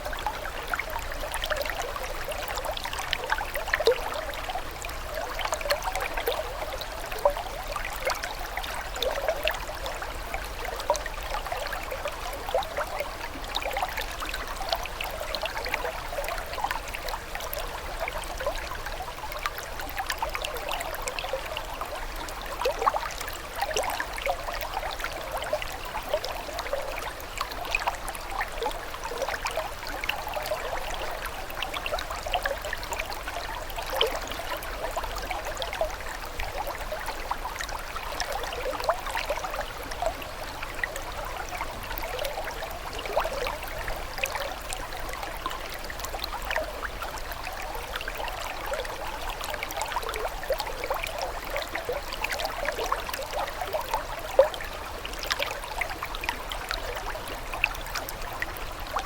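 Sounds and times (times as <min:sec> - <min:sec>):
small water splashes: 0:00.0 - 0:59.0
water trickling and babbling: 0:00.0 - 0:59.0.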